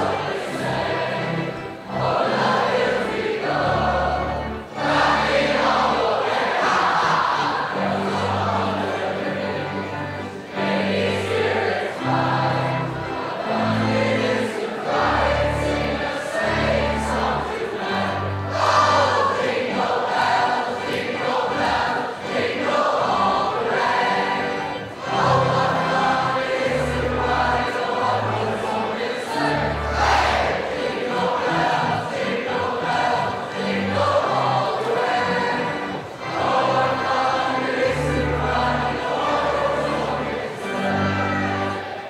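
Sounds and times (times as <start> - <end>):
choir singing: 0.0 - 42.0
string orchestra: 0.0 - 42.0.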